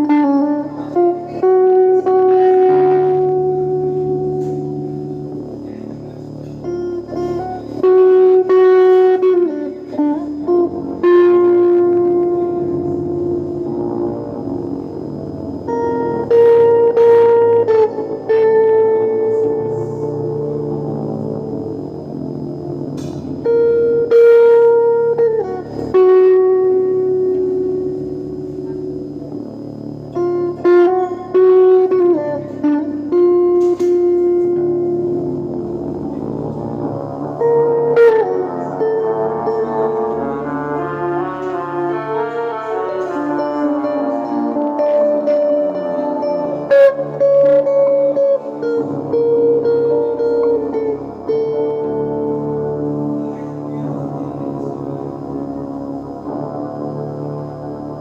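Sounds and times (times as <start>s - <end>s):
guitar slow melodic line: 0.0s - 58.0s
low held drone: 0.0s - 58.0s.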